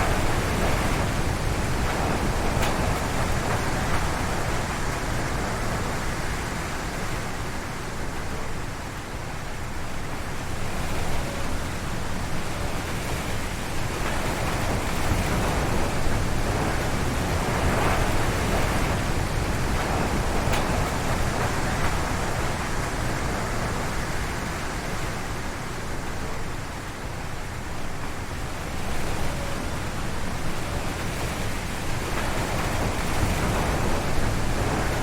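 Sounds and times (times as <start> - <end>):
wind gusting through trees: 0.0 - 35.0.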